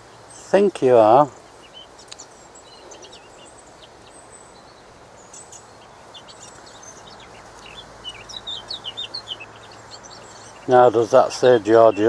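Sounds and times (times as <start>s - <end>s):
small birds chirping and singing: 0.0s - 12.0s
steady outdoor hiss: 0.0s - 12.0s.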